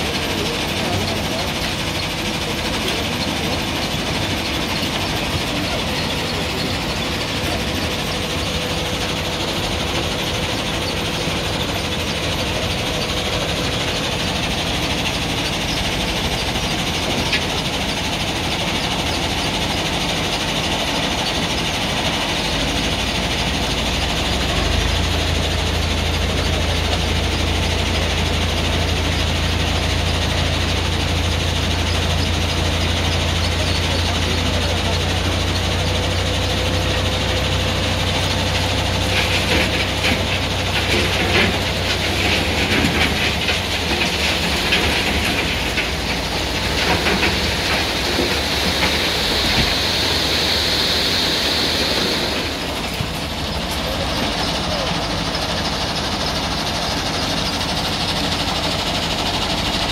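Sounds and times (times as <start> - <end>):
backhoe digging sand: 0.0 - 59.9
diesel engine under load: 0.0 - 59.9.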